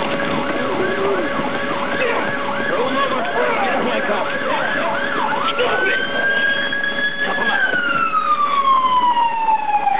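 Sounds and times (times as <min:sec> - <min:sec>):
emergency vehicle sirens: 0:00.0 - 0:09.9.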